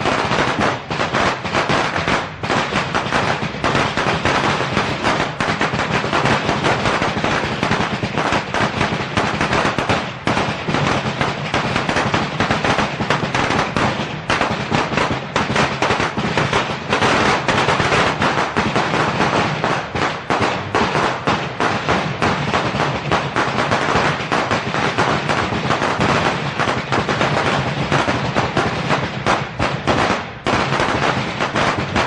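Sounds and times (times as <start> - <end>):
firecrackers crackling: 0.0 - 32.0.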